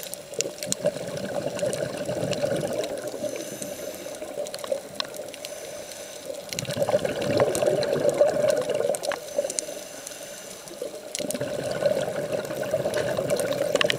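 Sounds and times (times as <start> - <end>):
water rushing underwater: 0.0 - 13.9.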